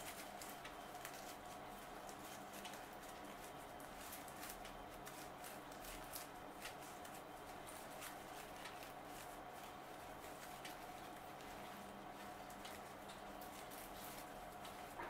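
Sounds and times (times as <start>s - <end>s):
rustling of ribbon and greenery: 0.0s - 15.0s.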